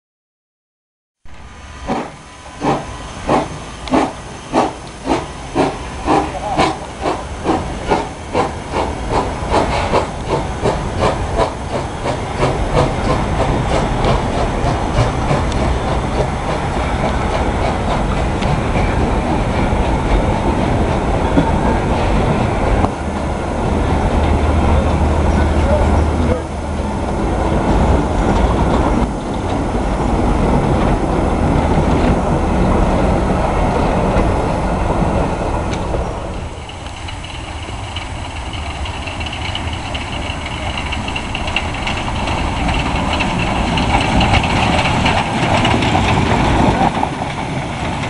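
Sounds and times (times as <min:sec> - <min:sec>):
train wheels rumbling on track: 0:01.2 - 0:48.0.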